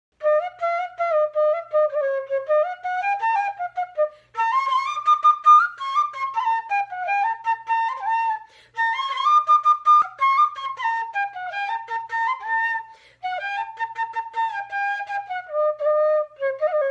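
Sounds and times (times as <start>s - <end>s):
bamboo flute melody: 0.2s - 16.9s.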